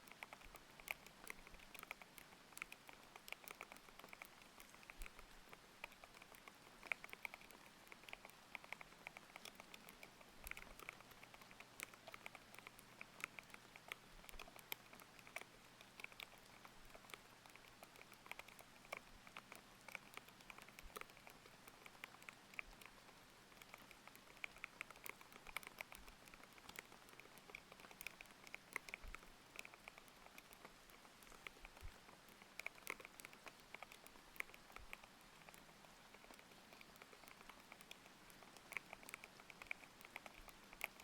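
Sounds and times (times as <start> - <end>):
typing on mechanical keyboard: 0.0 - 41.0.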